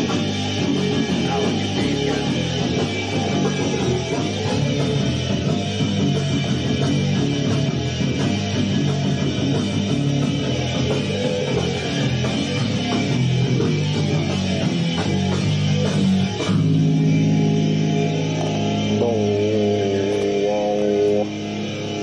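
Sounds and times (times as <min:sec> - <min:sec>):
bass guitar: 0:00.0 - 0:22.0
electric guitar: 0:00.0 - 0:22.0.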